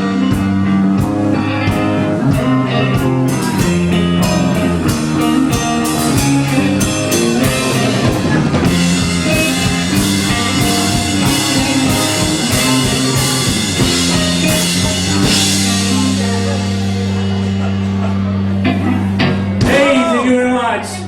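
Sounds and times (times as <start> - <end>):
ringing guitar chord: 0.0 - 20.1
drum kit: 0.0 - 20.3
bass guitar: 0.0 - 21.0
electric guitars: 0.0 - 21.0.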